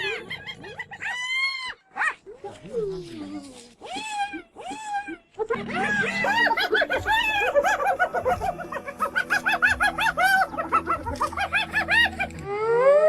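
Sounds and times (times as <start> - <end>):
hyenas giggling: 0.0 - 1.4, 2.3 - 12.6.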